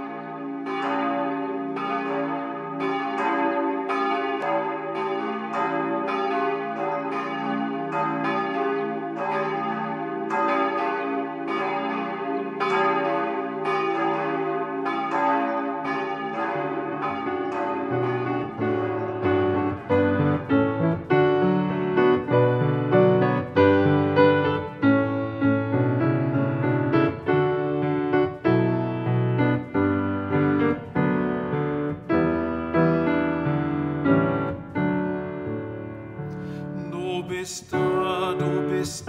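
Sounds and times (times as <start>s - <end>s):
church bells pealing: 0.0s - 39.0s
piano: 0.0s - 39.0s.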